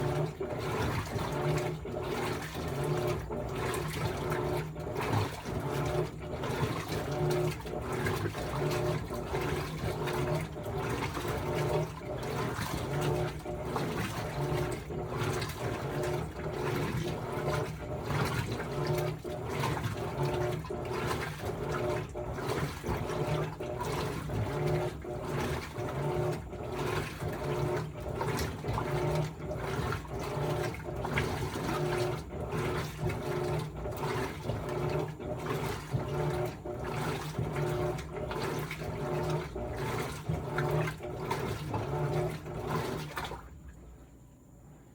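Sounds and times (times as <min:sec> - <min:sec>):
low motor hum: 0:00.0 - 0:44.2
water churning in washing machine: 0:00.0 - 0:44.9.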